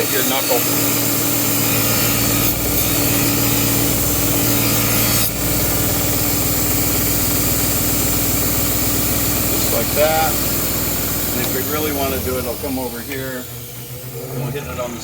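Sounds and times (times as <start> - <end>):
belt grinder grinding knife: 0.0 - 14.6
motor hum: 0.0 - 15.0.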